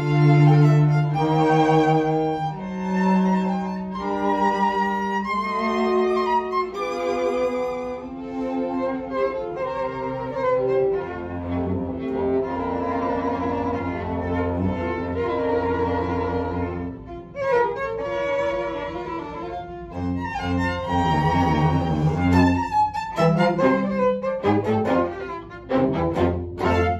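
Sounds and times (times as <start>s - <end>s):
string quartet playing: 0.0s - 26.9s.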